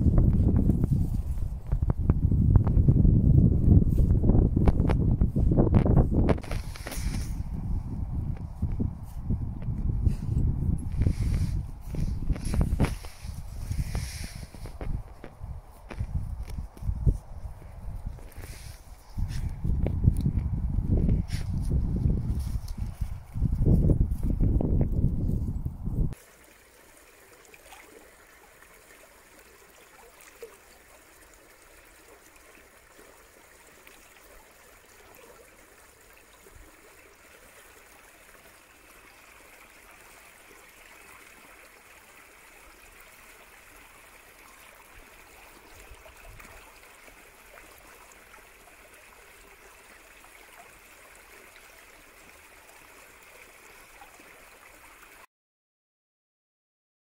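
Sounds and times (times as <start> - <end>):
stream trickling among rocks: 4.2 - 25.0, 25.6 - 55.3.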